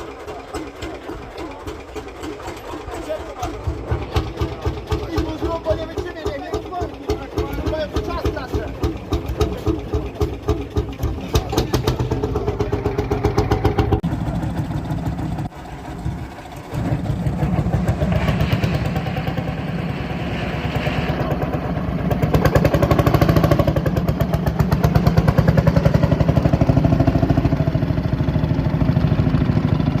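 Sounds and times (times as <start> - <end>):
tractor engine exhaust beat: 0.0 - 30.0.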